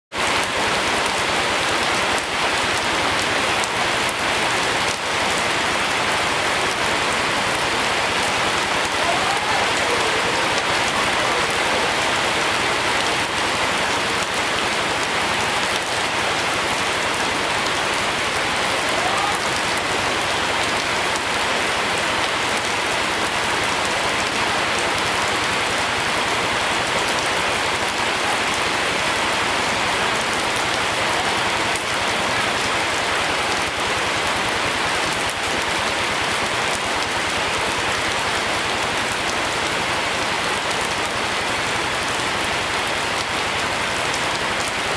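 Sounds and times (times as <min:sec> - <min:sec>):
steady rain falling: 0:00.1 - 0:44.9.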